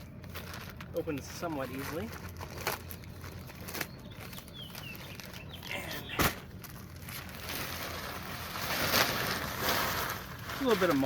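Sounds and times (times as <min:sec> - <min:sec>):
plastic bag crinkling: 0:00.0 - 0:05.8, 0:06.4 - 0:11.0
plastic bag crackle: 0:00.0 - 0:11.0.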